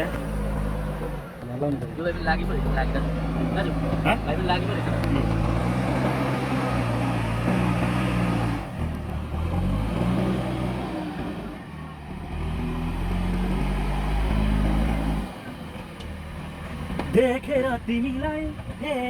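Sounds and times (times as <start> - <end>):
diesel engine working under load: 0.0 - 19.0.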